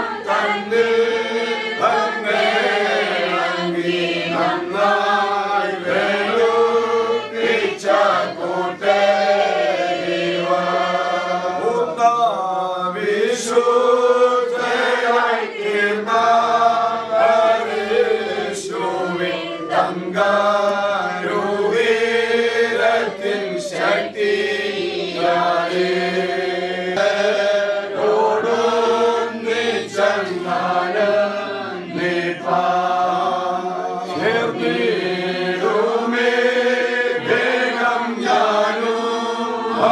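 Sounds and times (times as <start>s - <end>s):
voices singing a hymn: 0.0s - 39.9s.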